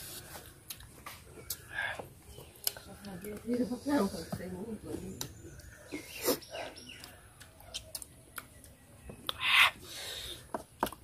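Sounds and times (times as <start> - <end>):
mouth eating noises: 0.0 - 3.4, 5.2 - 11.0
birds chirping: 0.6 - 10.9.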